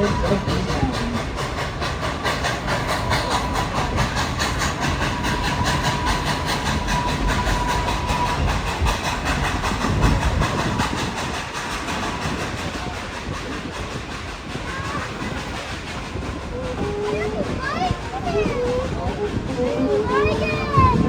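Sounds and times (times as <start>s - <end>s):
train rattling on track: 0.0s - 21.0s.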